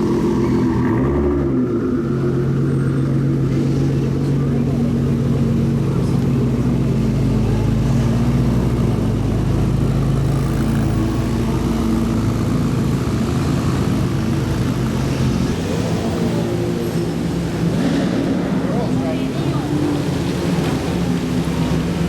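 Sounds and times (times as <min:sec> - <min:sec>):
car engine droning at low revs: 0:00.0 - 0:22.0.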